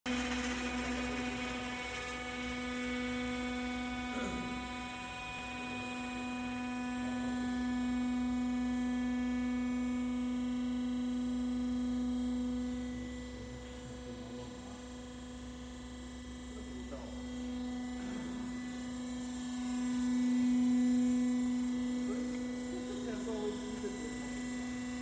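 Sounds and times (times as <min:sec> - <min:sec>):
mixer lifting drive humming: 0:00.1 - 0:25.0.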